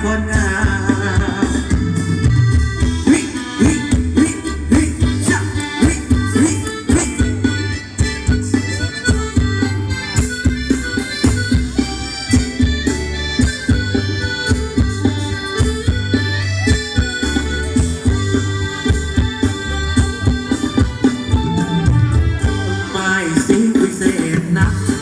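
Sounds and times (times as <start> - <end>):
reedy mouth organ melody: 0.0 - 25.0
steady drum beat: 0.0 - 25.0.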